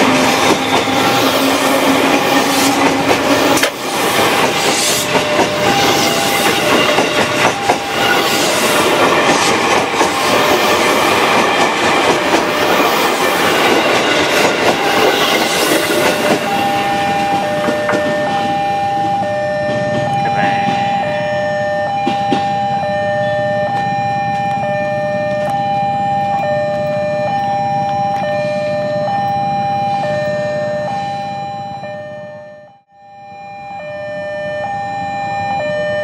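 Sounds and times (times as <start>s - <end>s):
train wheels rumbling on rails: 0.0s - 30.5s.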